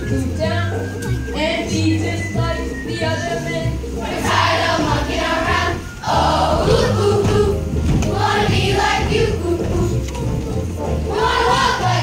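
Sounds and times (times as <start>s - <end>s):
children singing with music: 0.0s - 12.0s.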